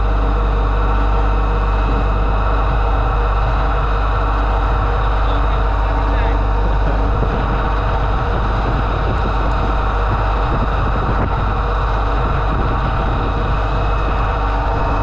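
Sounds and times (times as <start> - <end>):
heavy engine droning: 0.0 - 15.0.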